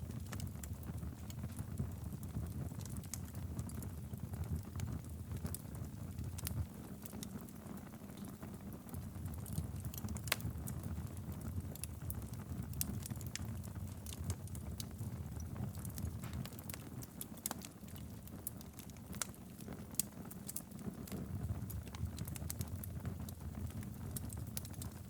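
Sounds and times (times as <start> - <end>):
low rumble of flame: 0.0 - 25.0
wood fire crackling and popping: 0.0 - 25.0.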